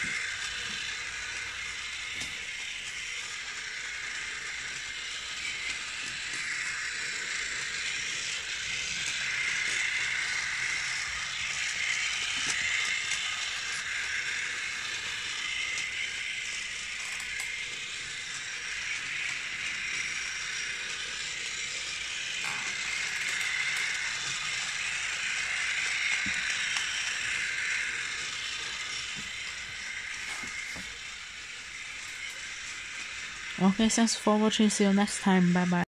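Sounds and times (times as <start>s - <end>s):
wheels clicking on rails: 0.0s - 35.2s
toy train motor whirring: 0.0s - 35.9s.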